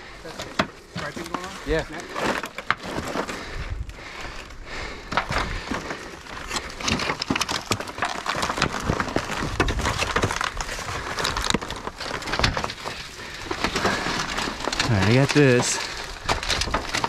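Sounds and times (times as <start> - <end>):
dry brush crackling and snapping: 0.1 - 3.5, 5.3 - 17.0.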